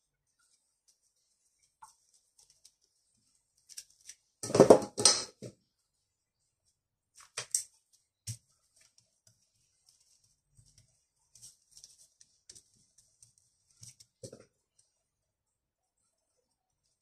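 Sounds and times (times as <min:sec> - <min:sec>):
soft rustling: 0:00.0 - 0:04.4, 0:05.8 - 0:15.1.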